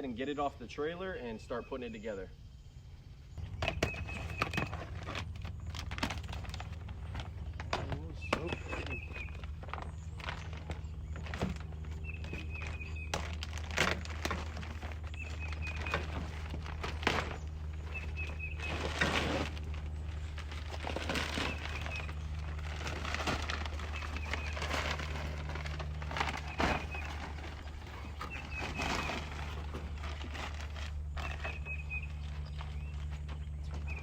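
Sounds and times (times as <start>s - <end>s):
engine idling: 3.0s - 34.0s
knocks and rustling: 3.4s - 34.0s.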